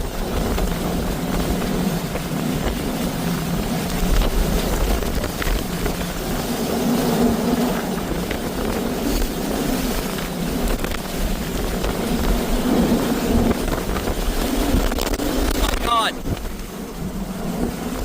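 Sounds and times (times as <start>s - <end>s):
strong wind blowing on microphone: 0.0s - 18.0s.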